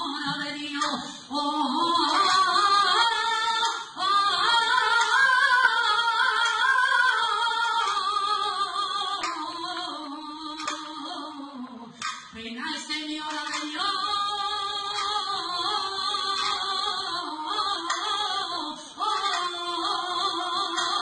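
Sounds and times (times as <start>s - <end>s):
woman singing flamenco song: 0.0s - 21.0s.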